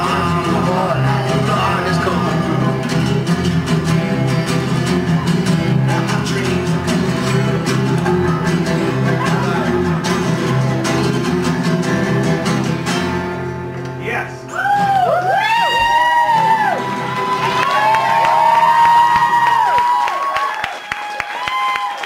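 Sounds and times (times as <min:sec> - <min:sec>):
acoustic guitars strumming punk song: 0:00.0 - 0:20.0.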